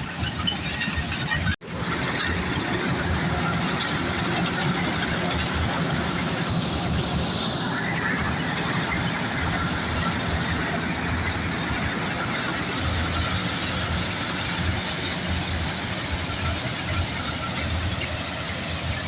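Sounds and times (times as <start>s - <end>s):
combine harvester droning: 0.0s - 19.0s.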